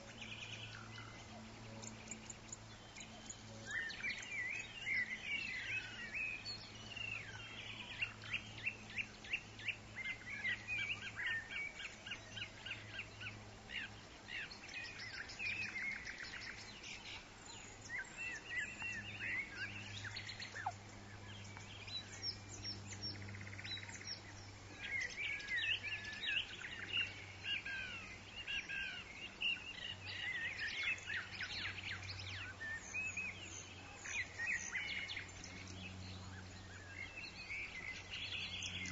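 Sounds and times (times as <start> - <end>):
forest birds singing: 0.0 - 38.9
steady low hum: 0.0 - 38.9.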